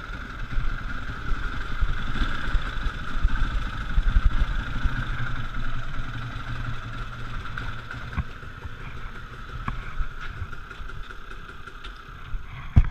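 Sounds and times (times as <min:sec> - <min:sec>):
motorcycle engine at low revs: 0:00.0 - 0:12.9.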